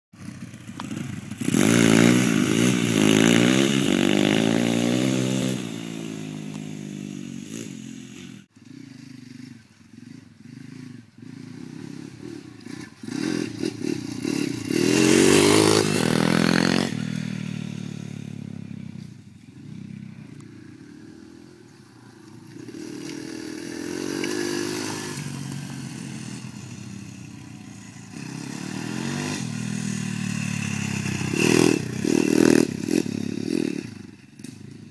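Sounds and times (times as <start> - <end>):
dirt bike engines revving: 0.2 - 34.9.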